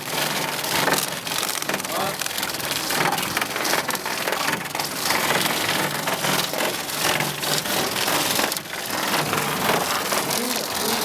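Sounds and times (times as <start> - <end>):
hail clattering: 0.0 - 11.0
heavy rain: 0.0 - 11.0.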